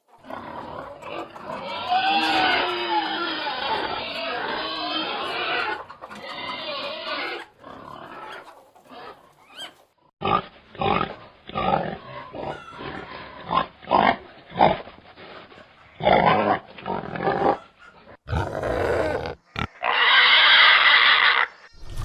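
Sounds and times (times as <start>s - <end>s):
pigs grunting and squealing: 0.1s - 21.7s.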